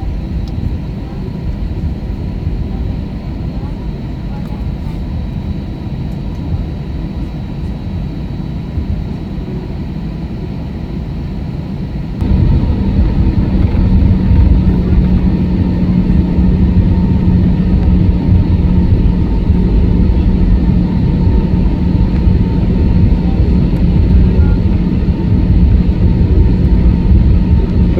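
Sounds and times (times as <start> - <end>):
aircraft cabin engine rumble: 0.0 - 27.9
steady low hum: 0.0 - 27.9.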